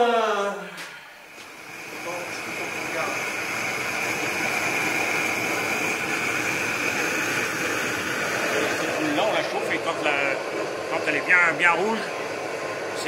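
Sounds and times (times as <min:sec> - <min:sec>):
blowtorch hissing: 0:00.8 - 0:13.0.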